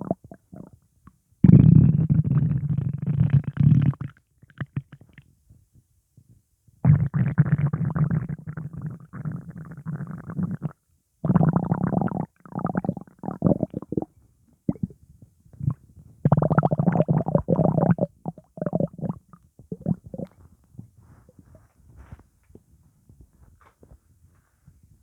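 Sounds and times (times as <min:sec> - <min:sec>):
stomach rumbling and gurgling: 0:00.0 - 0:00.8, 0:01.4 - 0:05.4, 0:06.8 - 0:25.0.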